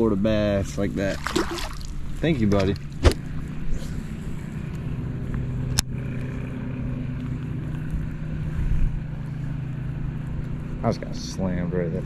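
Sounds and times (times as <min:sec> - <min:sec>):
low engine-like drone: 0:00.0 - 0:12.0.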